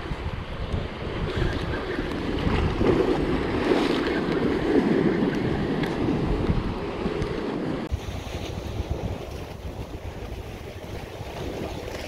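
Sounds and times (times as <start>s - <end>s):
waves breaking on rocky shore: 0.0s - 12.0s
wind buffeting microphone: 0.0s - 12.0s.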